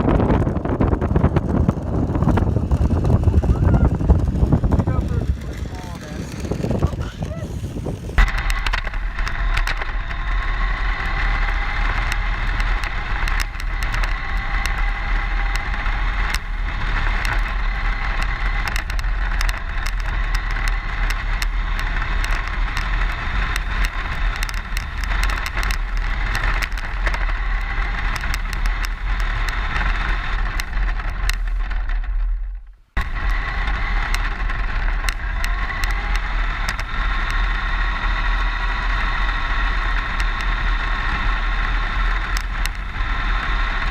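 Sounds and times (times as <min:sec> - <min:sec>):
vehicle running with whine: 0:00.0 - 0:43.9
small clicks: 0:08.2 - 0:43.9.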